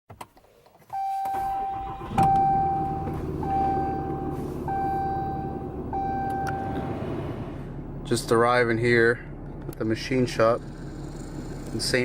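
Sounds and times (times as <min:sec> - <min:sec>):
car engine idling: 0:01.7 - 0:12.0.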